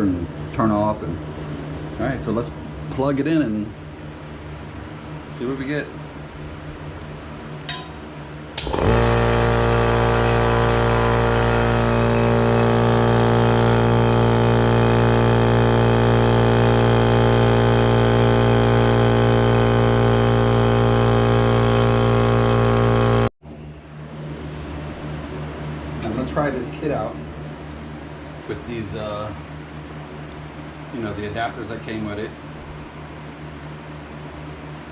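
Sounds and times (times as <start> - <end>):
air compressor running hum: 0.0 - 34.9.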